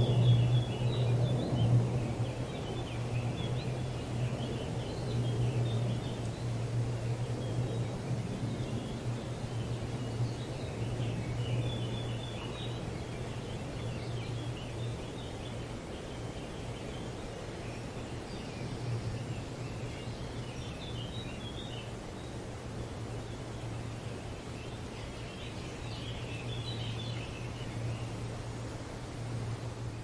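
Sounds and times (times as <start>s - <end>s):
birds chirping: 0.0s - 30.0s
soft outdoor hiss: 0.0s - 30.0s.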